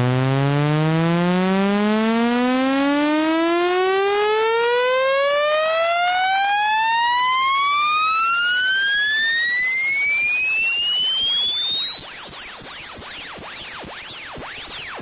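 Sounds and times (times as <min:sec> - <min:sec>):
electronic tone rising in pitch: 0:00.0 - 0:15.0.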